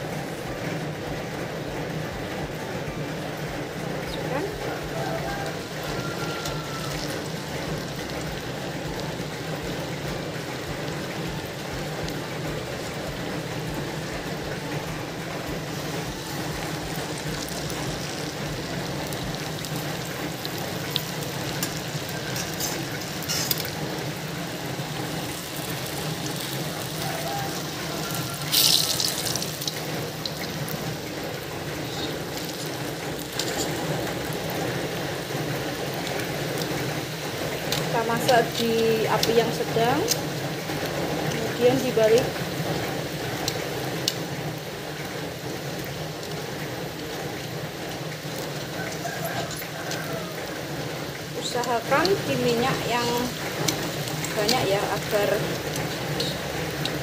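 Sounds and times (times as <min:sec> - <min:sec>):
food sizzling in hot oil: 0:03.1 - 0:57.0
oil popping: 0:04.4 - 0:57.0.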